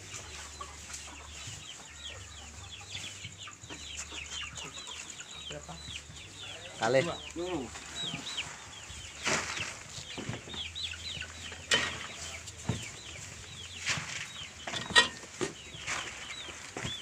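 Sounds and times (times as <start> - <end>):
chicks cheeping: 0.0 - 17.0.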